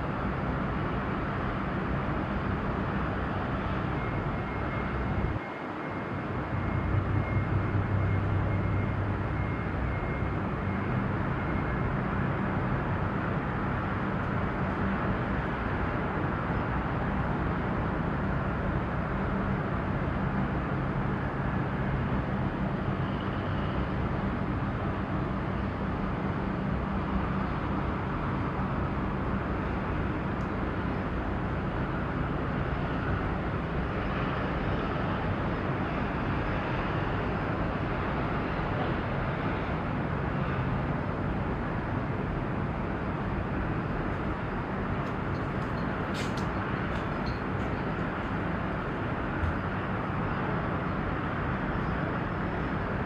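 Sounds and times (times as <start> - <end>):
harbour noise wash: 0.0 - 53.0
low engine drone: 0.0 - 53.0.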